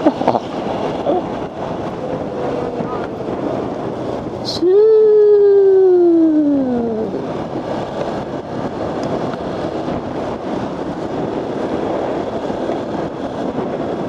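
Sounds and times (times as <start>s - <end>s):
wind and road rush: 0.0s - 14.0s.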